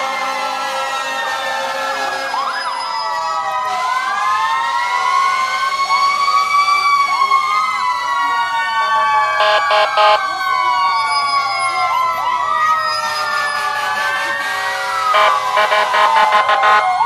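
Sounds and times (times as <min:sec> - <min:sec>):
fire engine sirens wailing: 0:00.0 - 0:17.0
siren whoops: 0:01.0 - 0:17.0.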